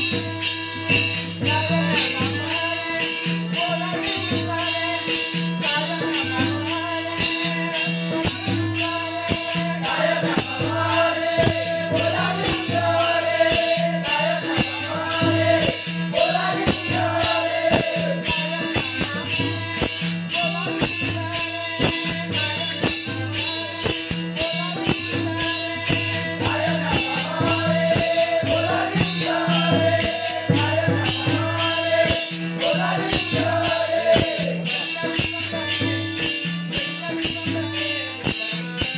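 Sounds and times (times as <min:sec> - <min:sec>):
small hand cymbals clashing: 0:00.0 - 0:38.9
voices singing devotional melody: 0:00.0 - 0:38.9.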